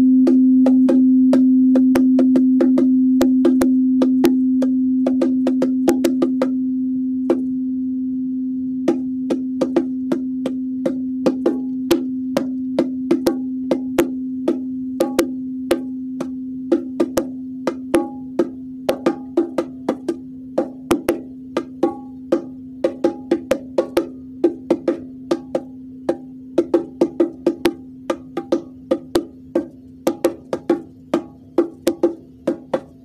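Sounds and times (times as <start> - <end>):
singing bowl ringing: 0.0 - 33.0
bongo drum taps: 0.2 - 6.6, 7.3 - 7.5, 8.9 - 33.0.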